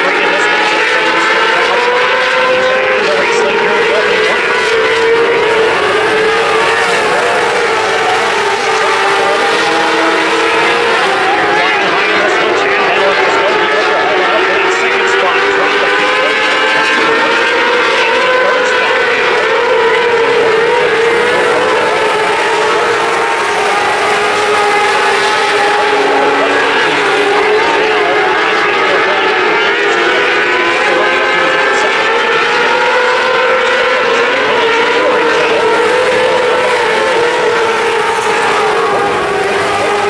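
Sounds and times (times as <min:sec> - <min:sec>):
racing car engines at high revs: 0:00.0 - 0:40.0.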